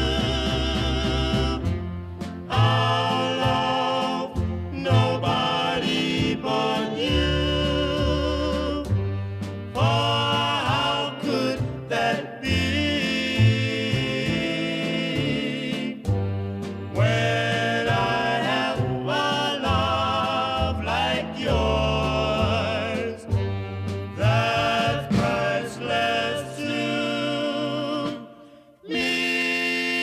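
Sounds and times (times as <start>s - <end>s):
band playing: 0.0s - 28.4s.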